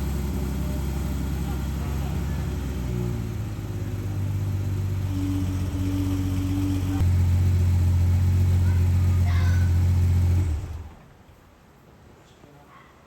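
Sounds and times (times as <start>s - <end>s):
car exhaust idling: 0.0s - 11.1s.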